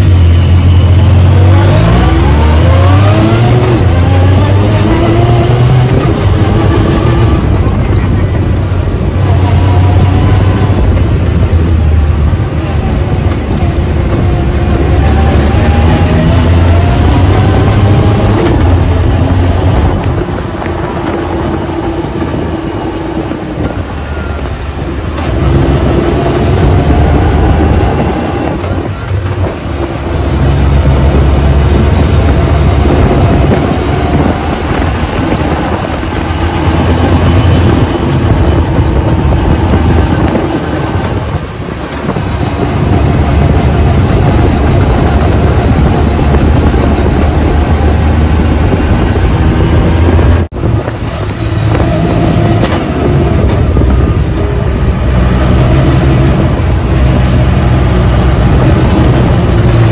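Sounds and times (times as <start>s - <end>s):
off-road vehicle engine rumbling: 0.0s - 59.9s
wind and ride noise: 0.0s - 59.9s.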